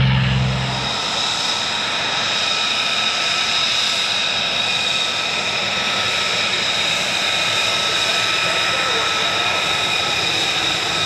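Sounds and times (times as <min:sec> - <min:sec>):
jet engine rush and whine: 0:00.0 - 0:11.0.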